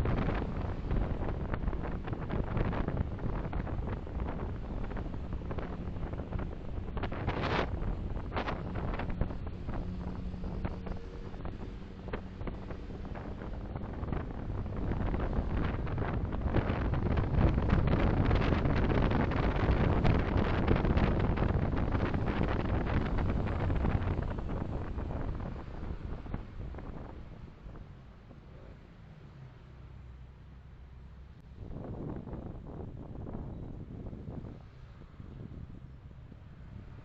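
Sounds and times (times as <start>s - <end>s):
tyres crackling on road: 0.0s - 31.5s
car road and wind noise: 0.0s - 37.0s.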